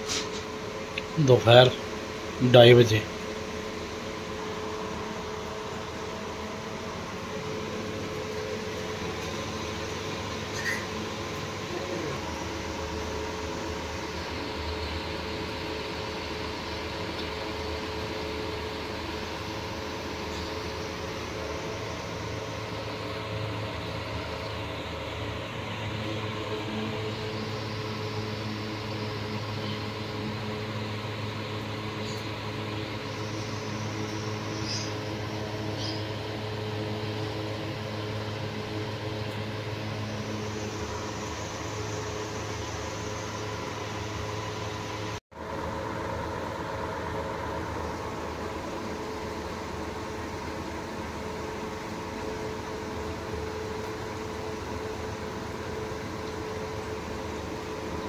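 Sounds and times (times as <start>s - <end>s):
air cooler motor hum: 0.0s - 58.0s
fan whooshing: 0.0s - 58.0s.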